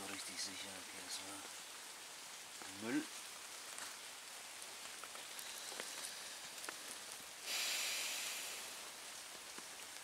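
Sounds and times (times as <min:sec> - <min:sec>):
burning twigs crackling: 0:00.0 - 0:10.0
light rain dripping: 0:00.0 - 0:10.0
rustling hiss: 0:00.0 - 0:10.0.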